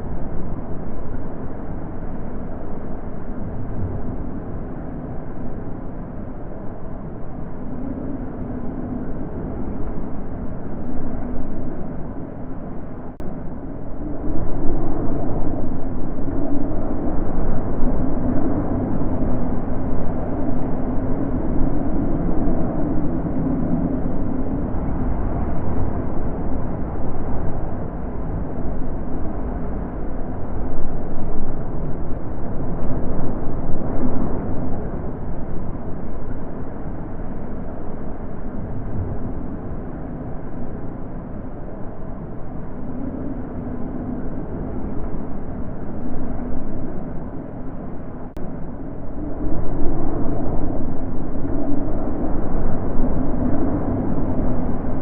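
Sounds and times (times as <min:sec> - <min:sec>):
wind blowing in gusts: 0:00.0 - 0:55.0.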